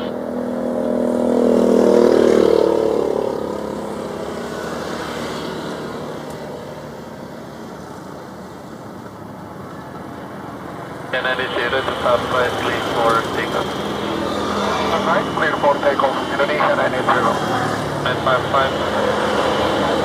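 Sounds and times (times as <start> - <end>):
jet airliner engine: 0.0 - 20.0.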